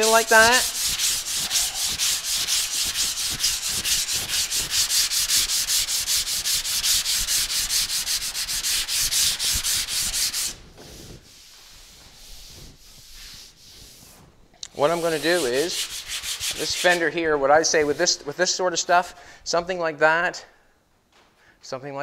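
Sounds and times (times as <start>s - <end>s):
sandpaper scratching: 0.0s - 18.4s.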